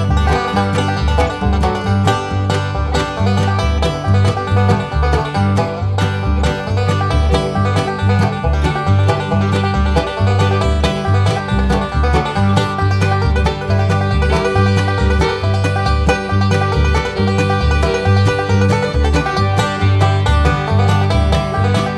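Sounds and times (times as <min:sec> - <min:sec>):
upbeat bluegrass music with banjo: 0:00.0 - 0:21.9.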